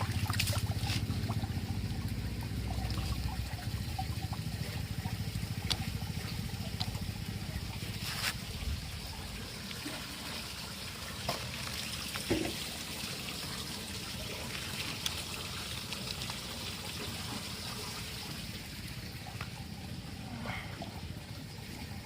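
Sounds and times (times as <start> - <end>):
water running and splashing: 0.0 - 22.0.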